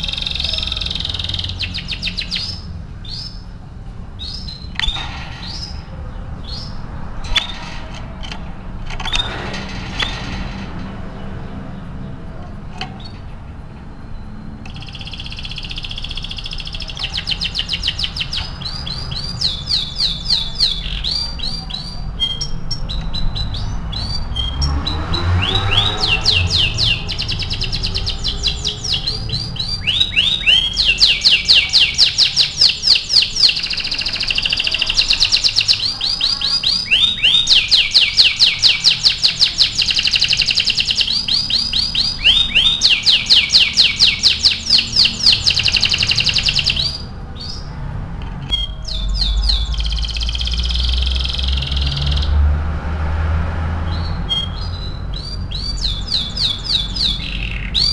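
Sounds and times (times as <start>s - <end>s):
canary singing trills: 0.0s - 52.4s, 53.8s - 57.9s.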